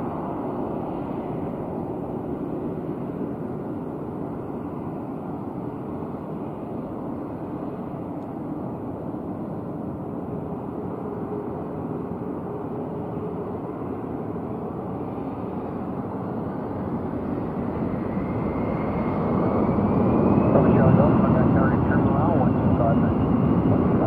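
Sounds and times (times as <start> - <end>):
jet engine whine rising: 0.0 - 24.0
jet engines running: 0.0 - 24.0.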